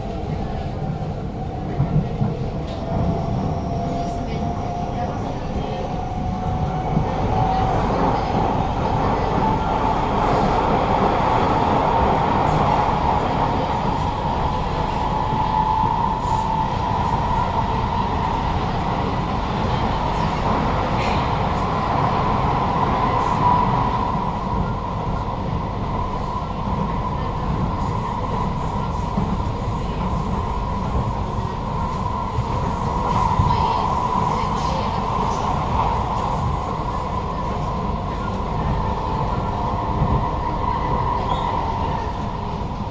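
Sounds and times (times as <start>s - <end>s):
wheel and rail rumble: 0.0s - 42.9s.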